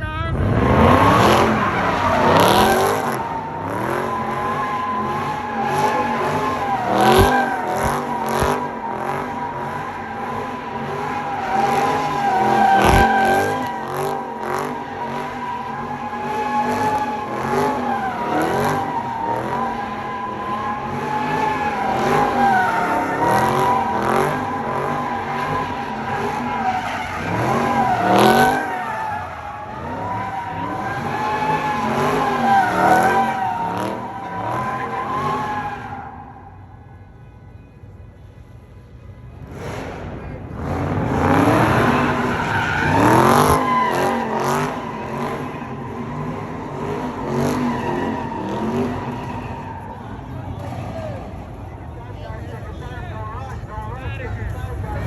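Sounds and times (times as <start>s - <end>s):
car engine revving: 0.0s - 36.9s, 39.3s - 55.0s
tyres squealing: 0.8s - 36.4s, 41.1s - 51.6s.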